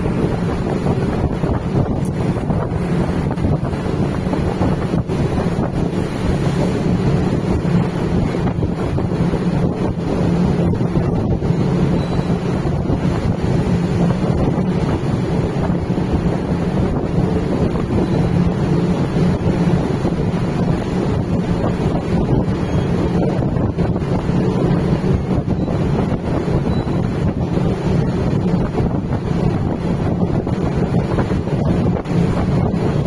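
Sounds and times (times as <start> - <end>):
low even drone: 0.0 - 33.0
water churning along ship hull: 0.0 - 33.0
wind blowing across microphone: 0.0 - 33.0.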